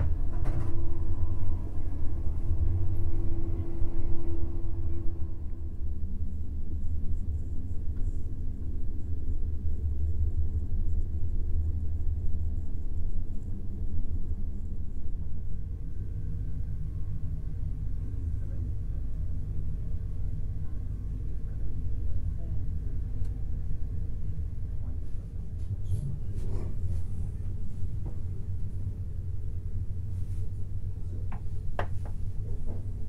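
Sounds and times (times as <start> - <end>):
train carriage rumbling on rails: 0.0 - 33.0.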